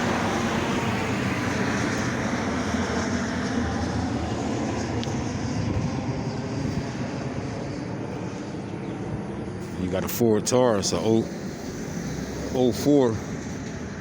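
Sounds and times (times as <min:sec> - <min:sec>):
vehicle rumbling: 0:00.0 - 0:14.0.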